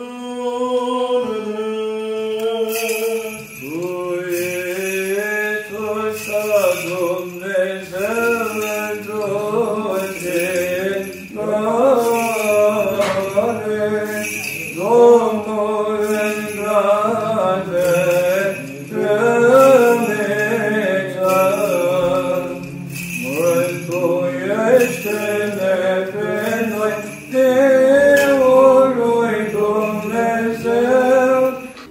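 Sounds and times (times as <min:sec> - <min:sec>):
voices chanting slow melody: 0:00.0 - 0:31.9
light metallic jingling: 0:02.7 - 0:31.9.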